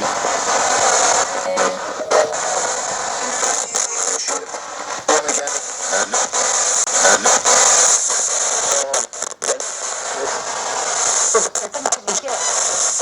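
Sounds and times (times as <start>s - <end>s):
radio static hiss: 0.0s - 13.0s
snatches of broadcast sound: 0.0s - 13.0s.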